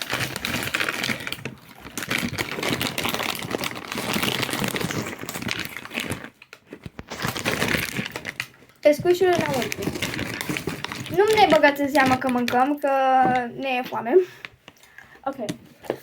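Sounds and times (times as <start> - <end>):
packaging crinkling and tearing: 0.0 - 13.1.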